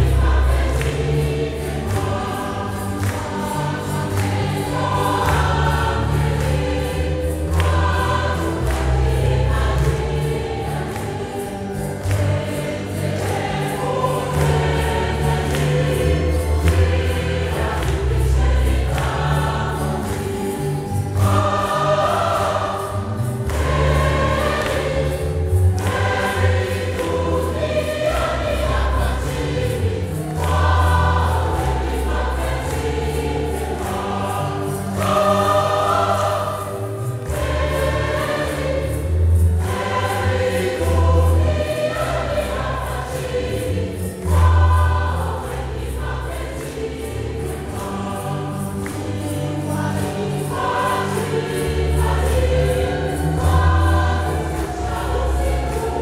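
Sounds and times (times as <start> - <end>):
church choir singing a hymn: 0.0 - 56.0.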